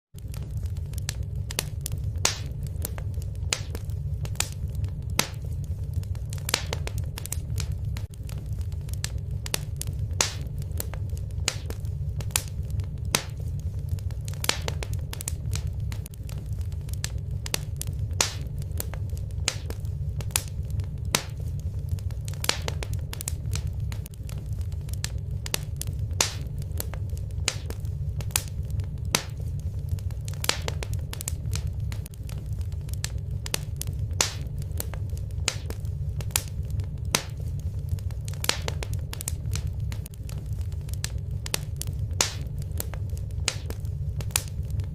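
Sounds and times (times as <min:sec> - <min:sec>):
fire crackles and pops: 0:00.1 - 0:44.9
low rumble of flames: 0:00.1 - 0:44.9.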